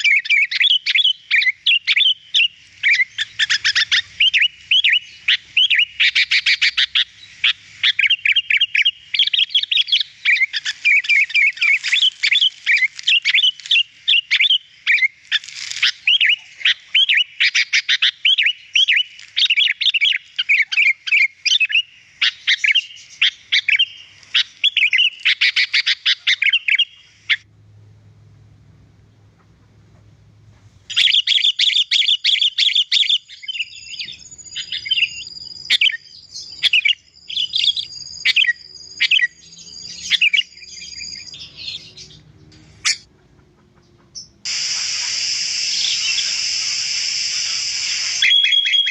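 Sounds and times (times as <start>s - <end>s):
bird chirping and warbling: 0.0s - 27.4s, 30.9s - 43.1s, 43.8s - 48.9s.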